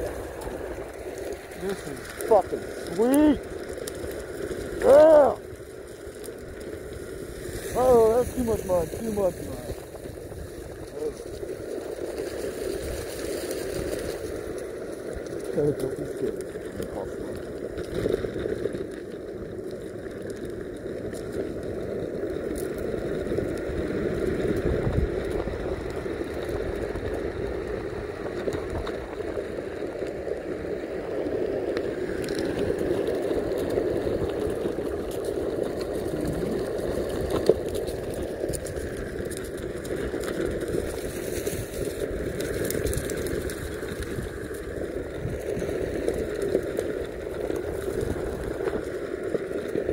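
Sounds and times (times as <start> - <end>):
skateboard wheels rumbling: 0.0 - 49.9.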